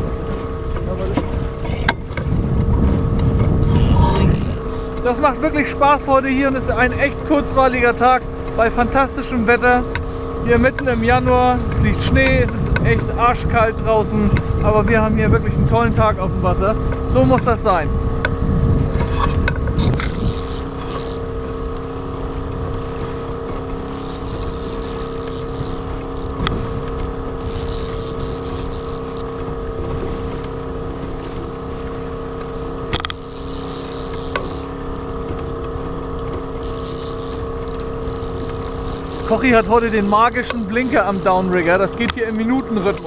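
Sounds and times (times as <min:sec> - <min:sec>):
outboard motor humming: 0:00.0 - 0:43.0
water rushing along hull: 0:00.0 - 0:43.0.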